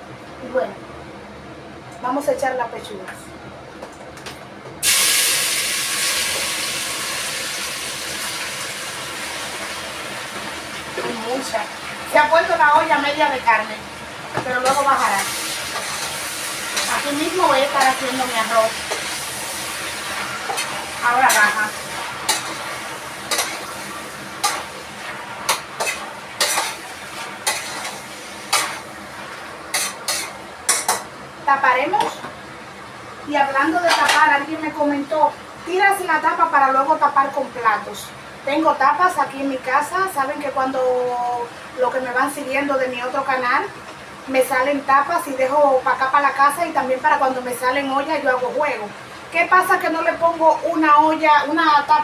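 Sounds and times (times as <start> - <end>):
meat sizzling in a hot pot: 4.8 - 52.0.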